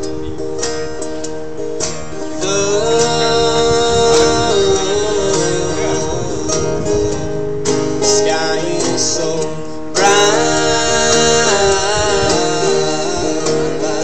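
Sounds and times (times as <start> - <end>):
acoustic band playing country song: 0.0 - 14.0
strummed acoustic guitar: 0.0 - 14.0.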